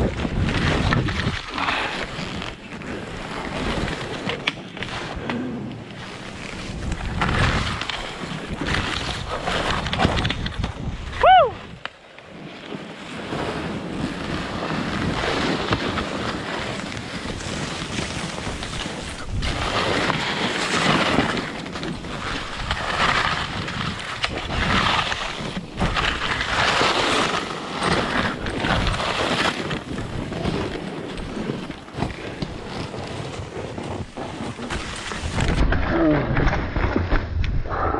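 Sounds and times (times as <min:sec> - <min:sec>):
wind buffeting microphone: 0:00.0 - 0:11.8, 0:13.0 - 0:37.9
skis scraping through snow: 0:00.0 - 0:35.6.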